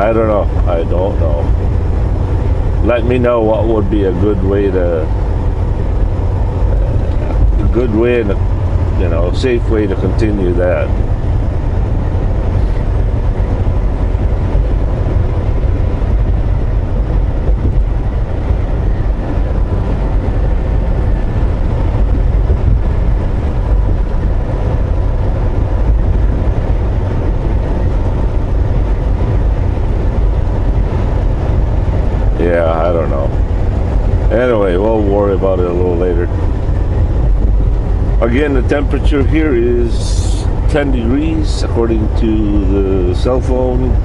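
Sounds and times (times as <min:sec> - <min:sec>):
road noise inside cab: 0:00.0 - 0:44.0
truck engine drone: 0:00.0 - 0:44.0.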